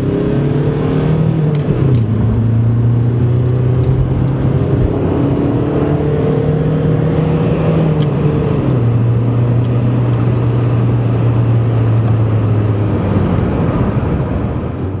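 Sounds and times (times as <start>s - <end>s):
diesel engine under hard driving: 0.0s - 15.0s
road noise: 0.0s - 15.0s.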